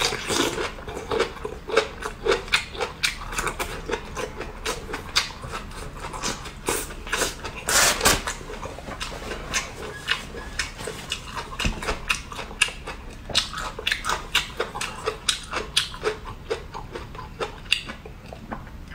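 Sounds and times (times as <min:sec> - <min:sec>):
man chewing with wet smacking: 0:00.0 - 0:18.9.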